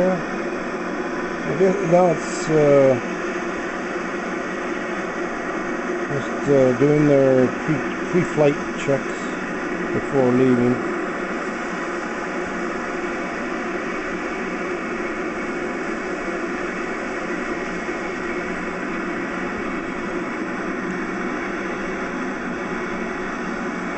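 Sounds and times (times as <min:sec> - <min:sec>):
jet engines idling: 0:00.0 - 0:23.9.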